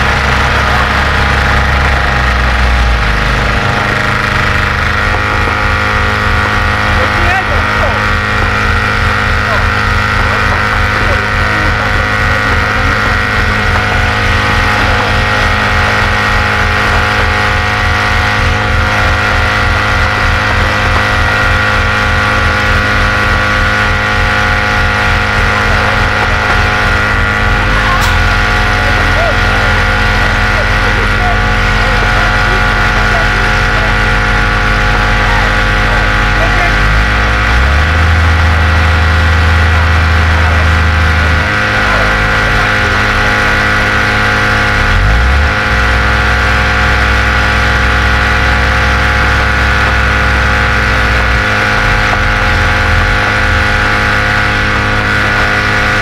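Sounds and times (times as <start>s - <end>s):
large engine idling: 0.0s - 56.0s.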